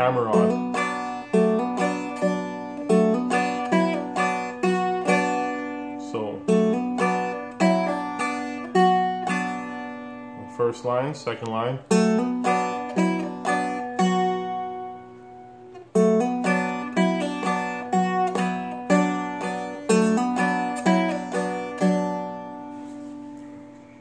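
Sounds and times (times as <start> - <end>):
fingerstyle acoustic guitar blues: 0.0 - 24.0.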